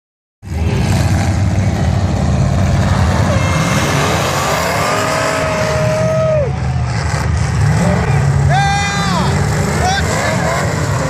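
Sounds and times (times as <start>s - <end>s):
car engines revving: 0.4s - 11.0s.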